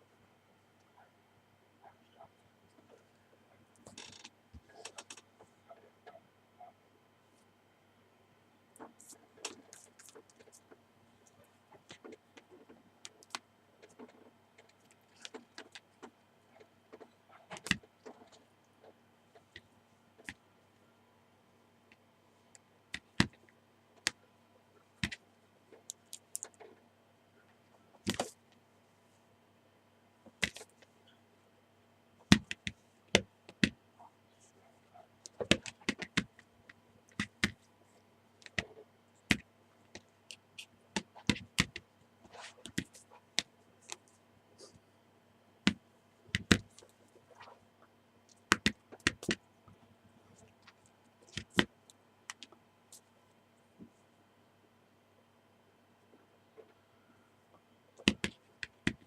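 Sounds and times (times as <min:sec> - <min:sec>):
faint electrical hum: 0:00.0 - 0:59.0.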